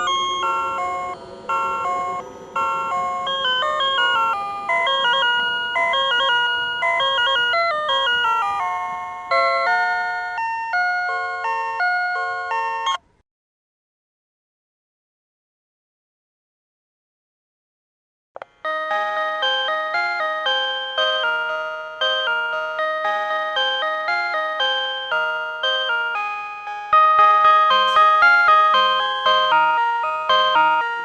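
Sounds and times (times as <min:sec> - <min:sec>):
electronic chime melody: 0:00.0 - 0:13.0, 0:18.6 - 0:31.0.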